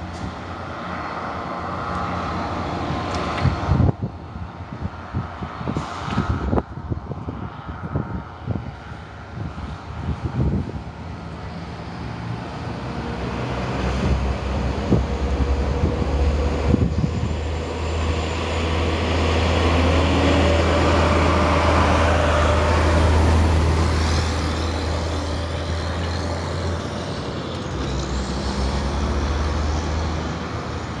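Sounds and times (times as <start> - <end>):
diesel locomotive engine drone: 0.0 - 31.0
rushing train noise: 0.0 - 31.0.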